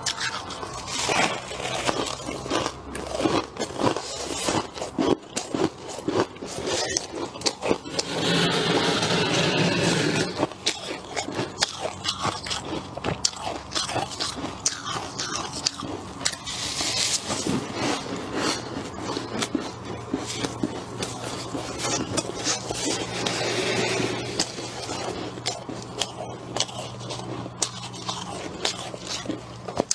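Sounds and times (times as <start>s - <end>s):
frost being chewed crunching: 0.0s - 8.1s, 10.4s - 23.4s, 24.4s - 29.9s.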